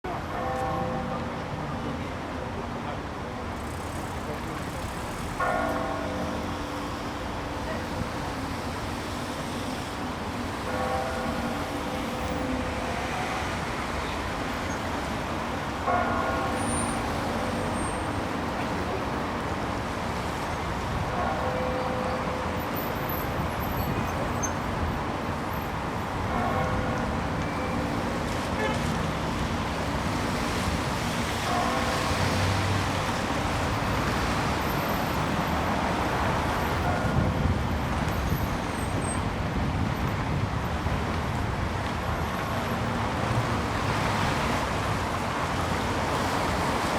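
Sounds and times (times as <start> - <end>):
passing road traffic: 3.4 - 46.9.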